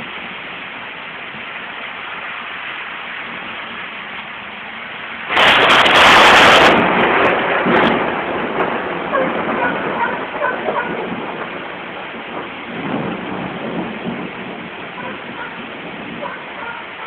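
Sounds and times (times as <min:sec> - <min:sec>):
steady rain: 0:00.0 - 0:17.0
thunder rumbling: 0:03.0 - 0:17.0.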